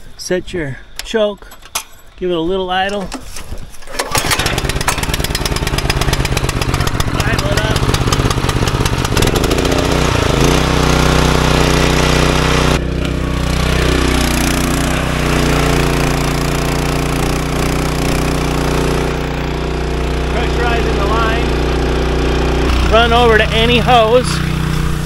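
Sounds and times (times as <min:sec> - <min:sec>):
engine driving water pump: 0:03.8 - 0:25.0.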